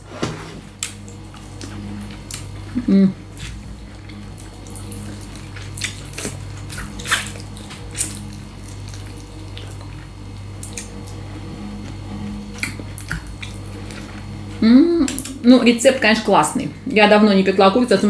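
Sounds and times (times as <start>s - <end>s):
low hum: 0.0s - 18.0s
person chewing: 0.7s - 15.4s.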